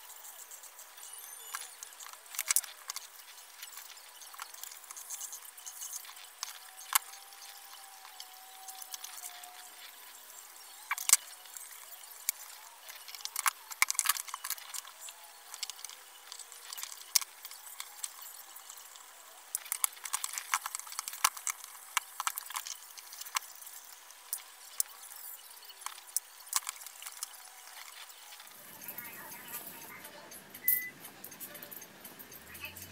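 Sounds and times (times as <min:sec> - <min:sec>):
small metal parts clicking: 0:00.2 - 0:32.9.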